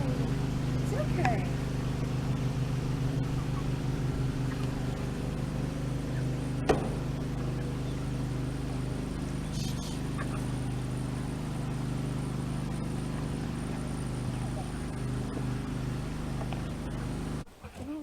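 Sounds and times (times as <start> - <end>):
small engine running: 0.0 - 17.9.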